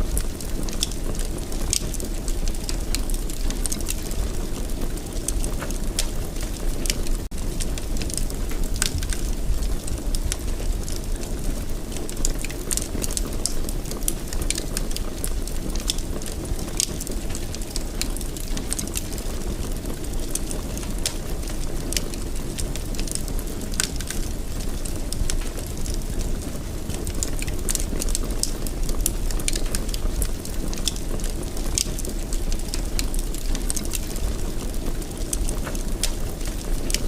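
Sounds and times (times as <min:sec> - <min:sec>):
fireplace fire crackling: 0:00.0 - 0:37.0
low rumble of flame: 0:00.0 - 0:37.0.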